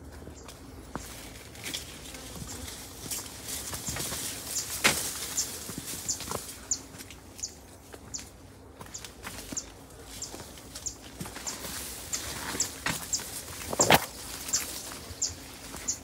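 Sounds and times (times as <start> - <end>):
footsteps on dry dirt path: 0.0 - 16.0
reeds and leaves rustling: 0.0 - 16.0.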